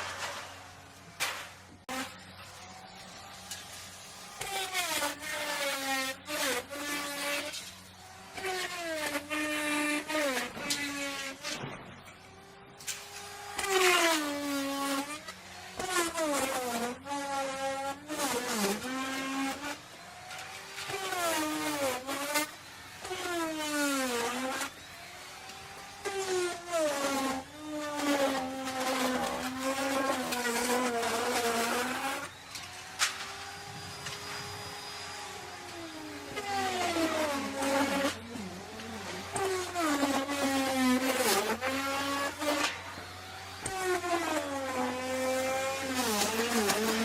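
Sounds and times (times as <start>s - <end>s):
wood router motor whine: 0.0s - 47.0s.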